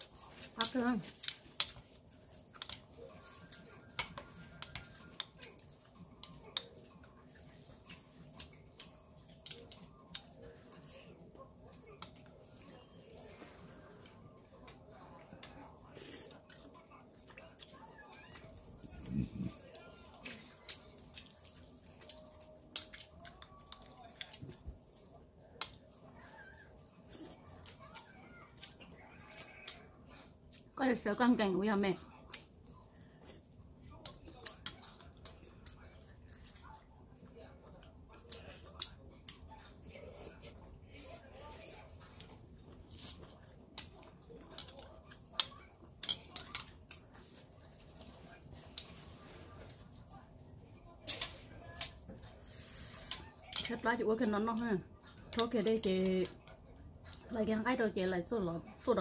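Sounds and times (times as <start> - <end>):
chewing and mouth noises: 0.0 - 30.8, 32.0 - 53.9.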